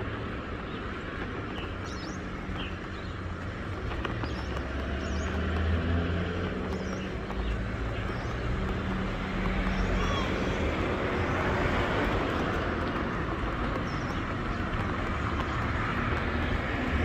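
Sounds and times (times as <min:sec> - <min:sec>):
car traffic rumble: 0:00.0 - 0:17.0
vehicle passing by: 0:02.2 - 0:17.0.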